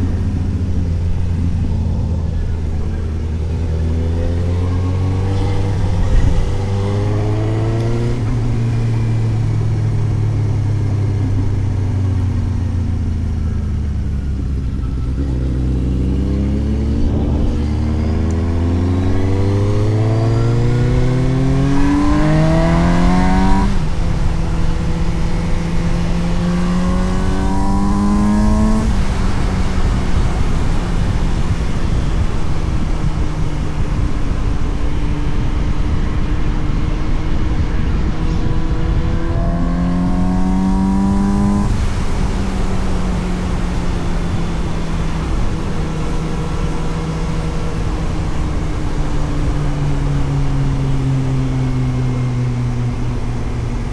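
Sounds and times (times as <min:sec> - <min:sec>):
wind rush: 0:00.0 - 0:13.3, 0:14.1 - 0:53.9
motorcycle engine accelerating: 0:00.0 - 0:53.9.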